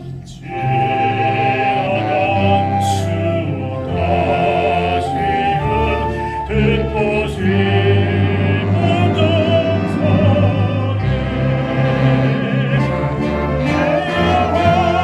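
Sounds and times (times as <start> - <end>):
instrumental accompaniment: 0.0 - 15.0
man singing with vibrato: 0.2 - 15.0.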